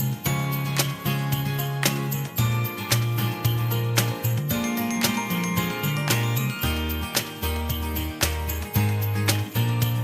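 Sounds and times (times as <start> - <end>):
jingling percussion: 0.0 - 10.0.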